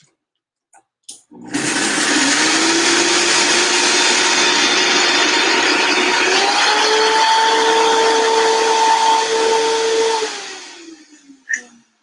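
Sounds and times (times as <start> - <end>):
blender motor running: 1.3 - 11.4.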